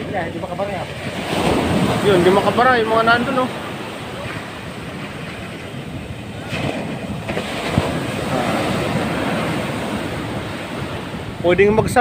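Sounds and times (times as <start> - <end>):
waves breaking on beach: 0.0 - 12.0
wind rumbling on microphone: 0.0 - 12.0.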